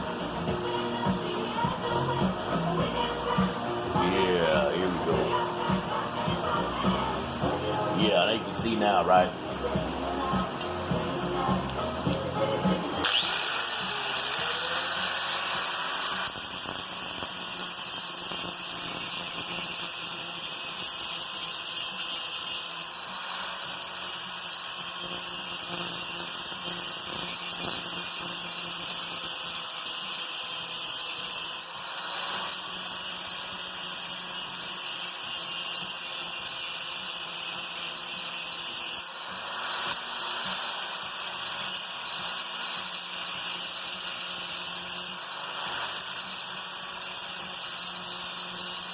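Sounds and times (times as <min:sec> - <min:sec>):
electric grinder grinding metal: 0:00.0 - 0:48.9.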